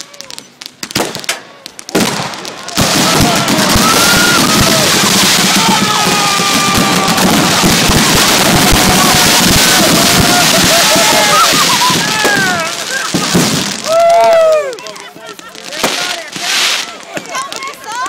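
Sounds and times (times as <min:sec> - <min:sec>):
fireworks crackling and banging: 0:00.0 - 0:18.0
fireworks whistling: 0:00.0 - 0:18.0.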